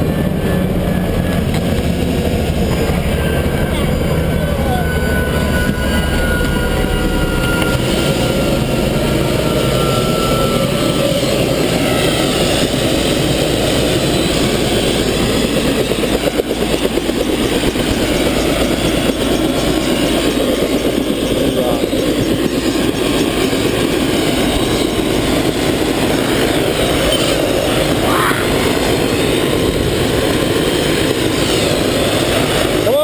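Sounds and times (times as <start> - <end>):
helicopter idling: 0.0 - 33.0.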